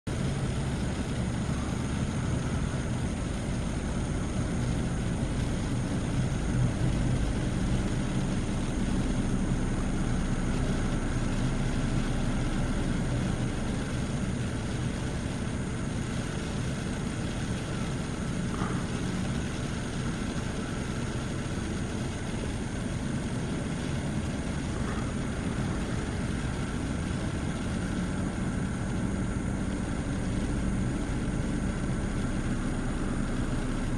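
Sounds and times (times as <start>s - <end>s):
heavy rain hiss: 0.1s - 33.9s
propeller aircraft engine drone: 0.1s - 33.9s.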